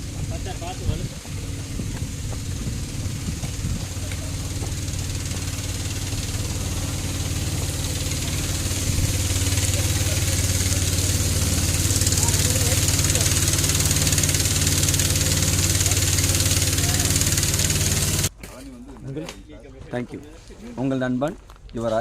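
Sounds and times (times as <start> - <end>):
hiss: 0.0 - 18.3
small petrol engine running: 0.0 - 18.3.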